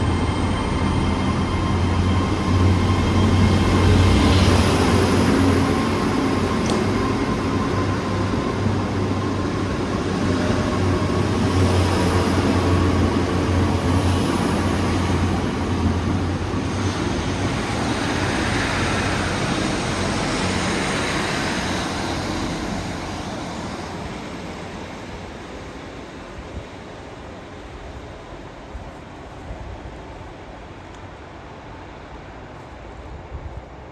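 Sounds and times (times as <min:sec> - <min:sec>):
diesel train passing: 0:00.0 - 0:33.9.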